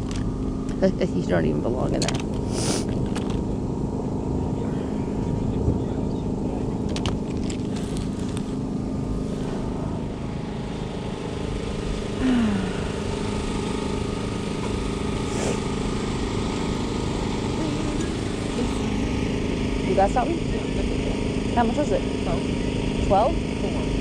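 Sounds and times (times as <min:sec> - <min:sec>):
engine hum: 0:00.0 - 0:24.0
low rumble: 0:00.0 - 0:24.0.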